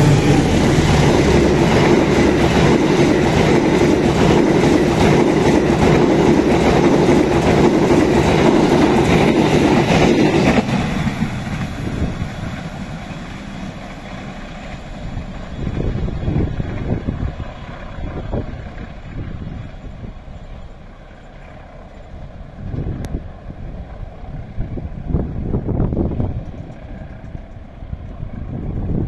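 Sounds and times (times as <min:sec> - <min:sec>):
train wheels rumbling and clacking: 0:00.0 - 0:29.0.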